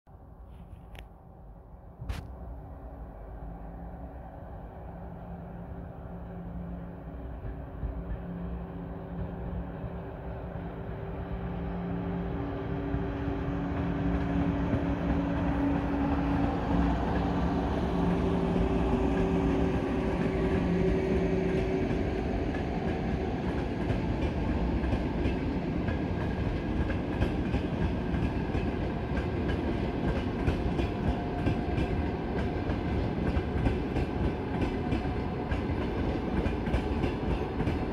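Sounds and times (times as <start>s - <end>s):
electric locomotive hum: 0.5s - 37.9s
train coaches rumbling: 2.4s - 37.9s.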